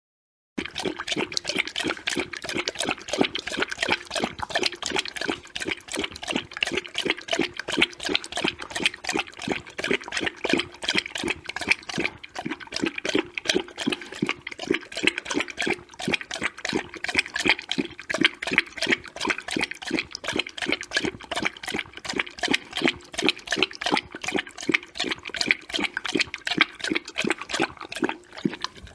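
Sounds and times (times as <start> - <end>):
dog lapping water: 0.6 - 28.9.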